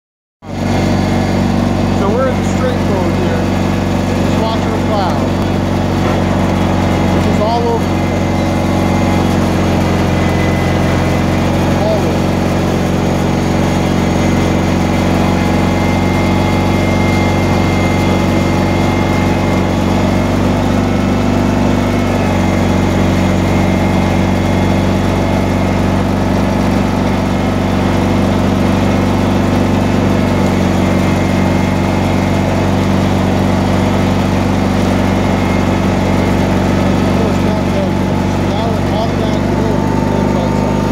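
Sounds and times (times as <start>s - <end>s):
plow blade pushing snow: 0.4s - 40.9s
tractor engine running: 0.4s - 40.9s.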